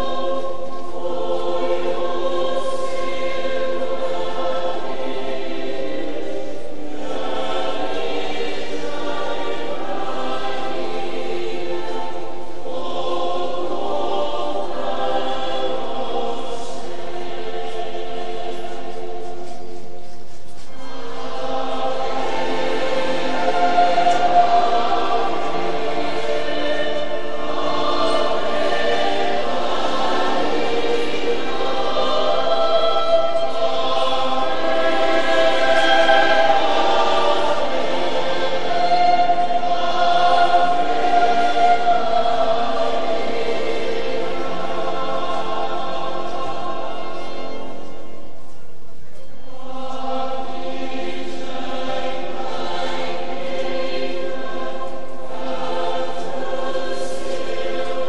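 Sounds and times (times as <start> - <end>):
many voices singing a hymn: 0.0 - 58.0.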